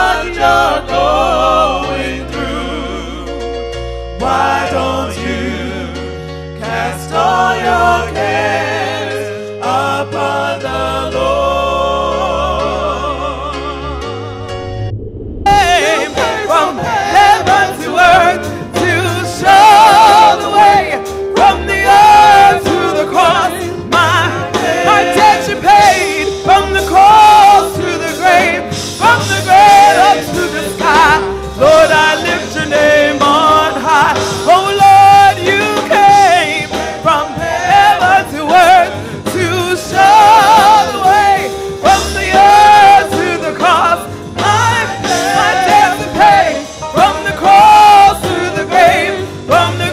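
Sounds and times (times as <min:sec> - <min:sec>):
keyboard chords and bass: 0:00.0 - 0:49.9.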